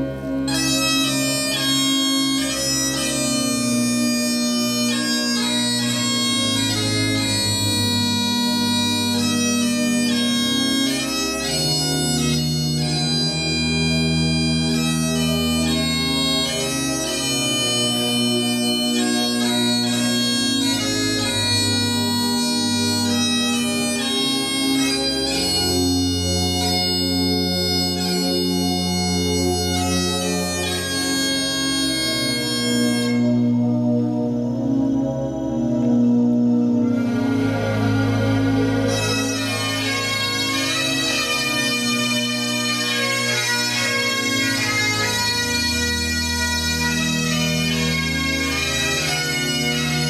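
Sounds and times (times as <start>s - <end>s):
bagpipes playing slow melody: 0.0s - 50.0s.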